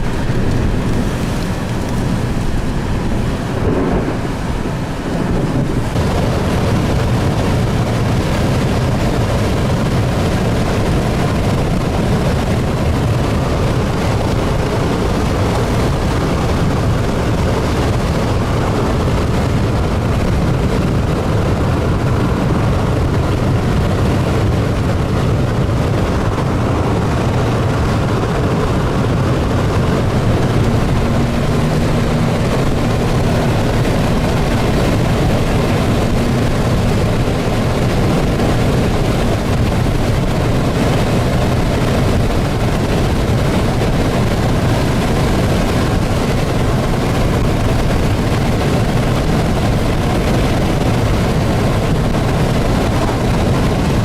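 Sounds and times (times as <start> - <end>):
strong wind buffeting microphone: 0.0 - 54.0.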